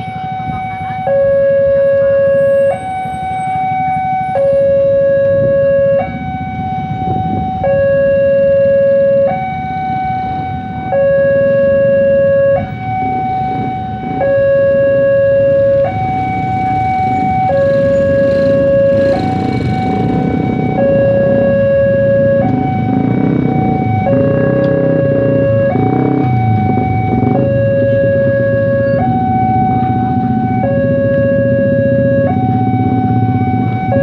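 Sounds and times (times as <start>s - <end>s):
level crossing two-tone alarm: 0.0s - 34.0s.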